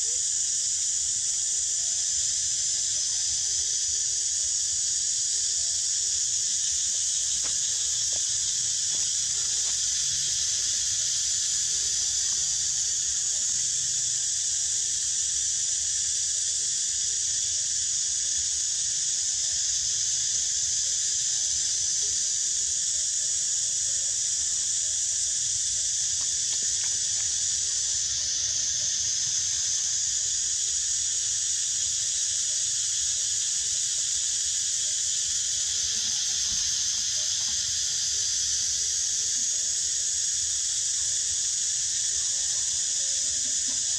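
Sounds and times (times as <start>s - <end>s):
insect chorus droning: 0.0s - 43.9s.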